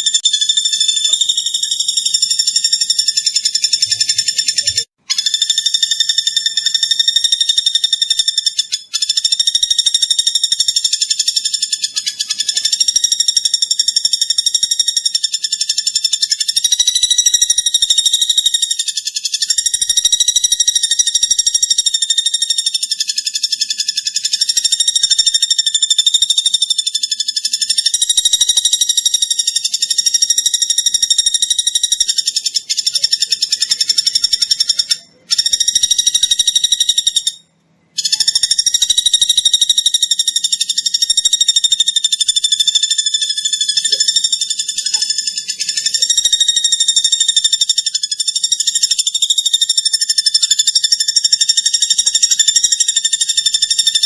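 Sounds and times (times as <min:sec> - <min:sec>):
bird song rapid buzzing trill: 0:00.0 - 0:54.0.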